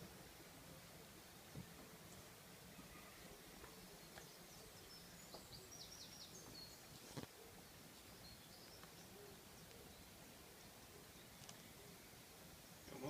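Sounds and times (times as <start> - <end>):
faint bird chirps: 0.6 - 13.0.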